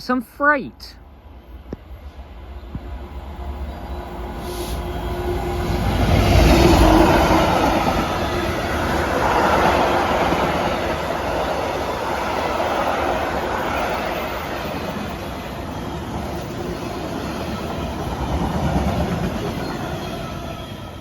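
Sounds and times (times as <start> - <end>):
diesel locomotive hauling freight train: 0.2 - 21.0.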